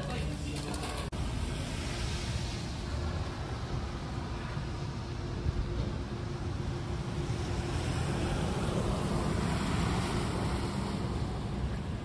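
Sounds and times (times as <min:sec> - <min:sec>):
car passing: 0:00.0 - 0:12.0
road noise: 0:00.0 - 0:12.0.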